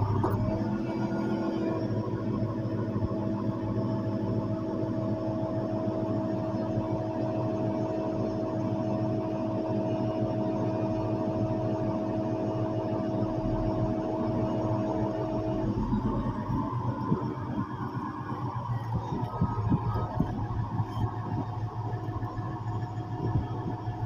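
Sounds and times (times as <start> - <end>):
diesel engine rumbling with whine: 0.0 - 24.0.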